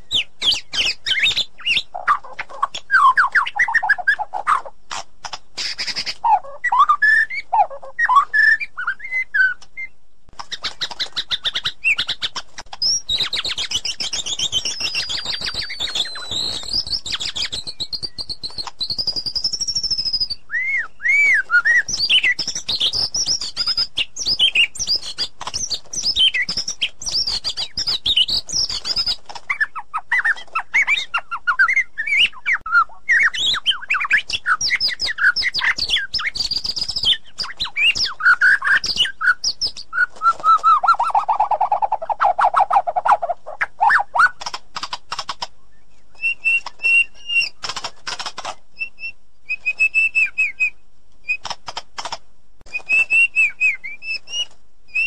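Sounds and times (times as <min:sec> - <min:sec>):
songbird whistling and trilling: 0:00.0 - 0:04.7, 0:05.6 - 0:44.5, 0:45.7 - 0:47.6, 0:48.8 - 0:51.5, 0:52.7 - 0:55.0.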